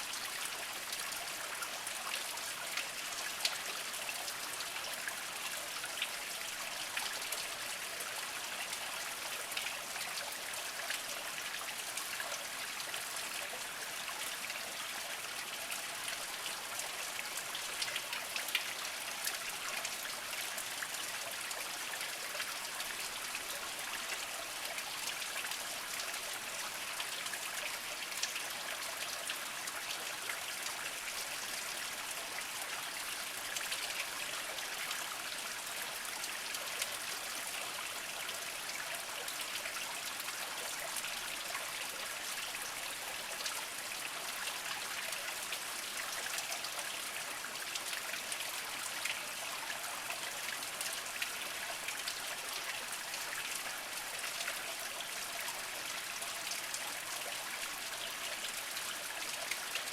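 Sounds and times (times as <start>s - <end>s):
water trickling over rocks: 0.0s - 59.9s.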